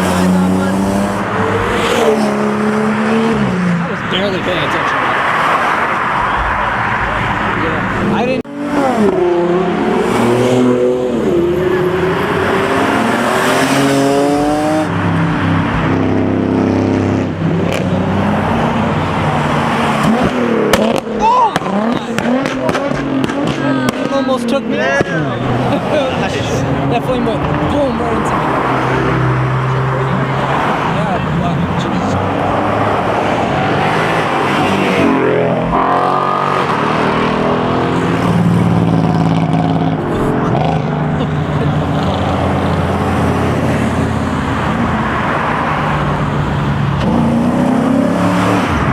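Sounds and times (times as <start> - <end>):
car engine revving hard: 0.0 - 48.9.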